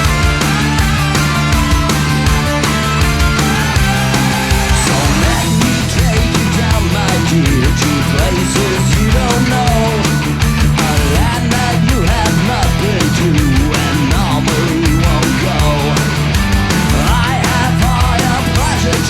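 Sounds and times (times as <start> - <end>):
distorted electric guitar: 0.0 - 19.0
driving drum beat: 0.0 - 19.0.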